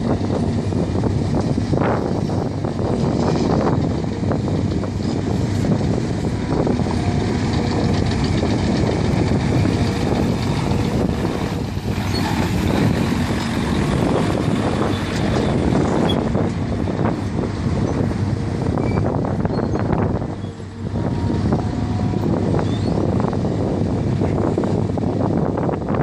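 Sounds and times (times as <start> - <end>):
dump truck diesel engine passing: 0.0 - 26.0
excavators running: 0.0 - 26.0.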